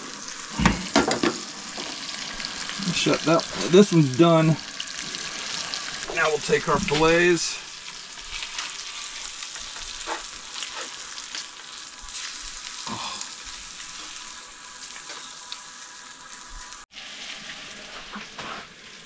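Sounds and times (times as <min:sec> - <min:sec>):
fish fillets sizzling in skillet: 0:00.0 - 0:19.0.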